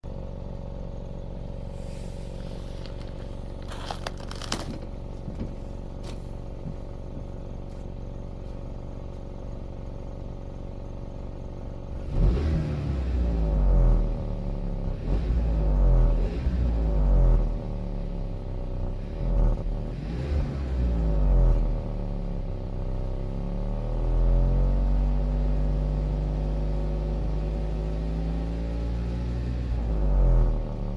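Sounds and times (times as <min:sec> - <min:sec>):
car engine idling and revving: 0:00.0 - 0:30.9.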